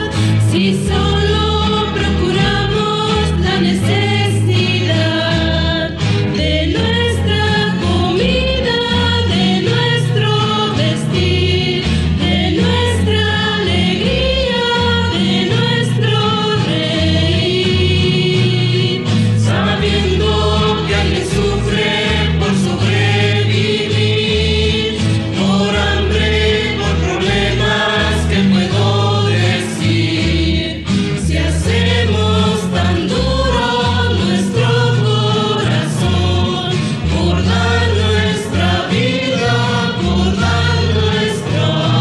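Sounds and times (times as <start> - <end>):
chorus singing slow song: 0.0 - 42.0
guitar ensemble playing: 0.0 - 42.0
steady bass line: 0.0 - 42.0.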